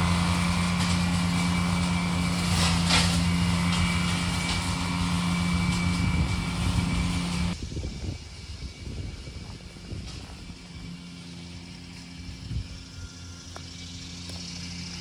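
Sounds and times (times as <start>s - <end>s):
high mower whine: 0.0s - 15.0s
tractor engine drone: 0.0s - 15.0s.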